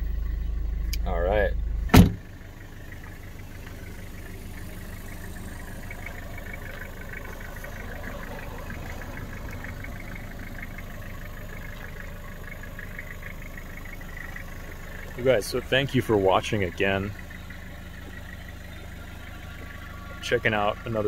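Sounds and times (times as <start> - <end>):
diesel engine idling: 0.0 - 21.0
rapid even ticking: 2.3 - 21.0.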